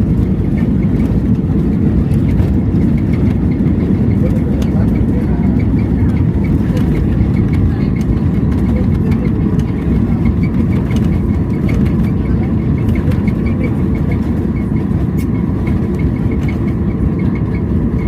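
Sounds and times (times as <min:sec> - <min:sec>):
airliner rolling on runway: 0:00.0 - 0:18.0.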